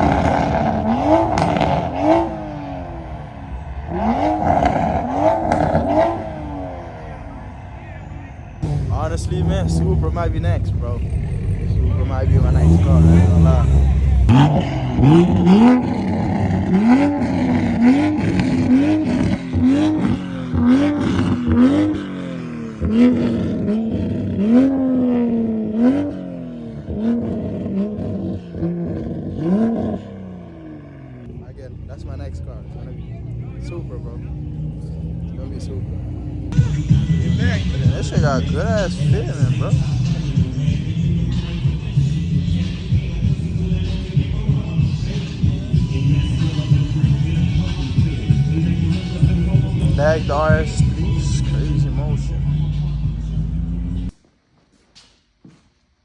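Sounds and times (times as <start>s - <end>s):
car engine revving: 0.0s - 54.2s
exhaust crackles: 0.0s - 55.4s.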